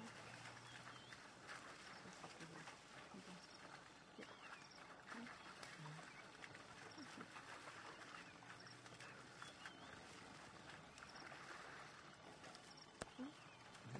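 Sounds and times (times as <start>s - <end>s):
hoof steps in muddy water: 0.0s - 13.9s
water splashing: 0.0s - 13.9s.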